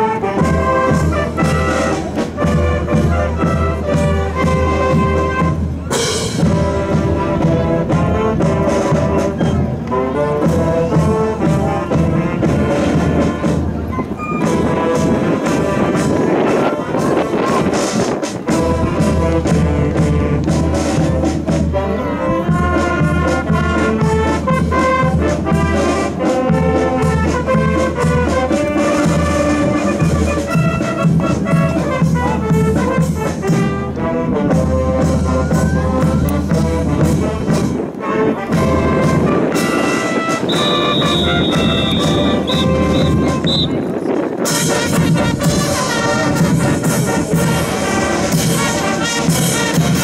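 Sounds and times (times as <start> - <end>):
brass band playing: 0.0 - 50.0.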